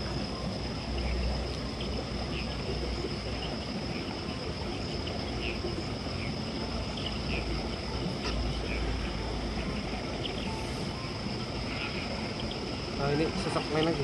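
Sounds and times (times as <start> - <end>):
insect chirps: 0.0 - 14.0
insects trilling: 0.0 - 14.0.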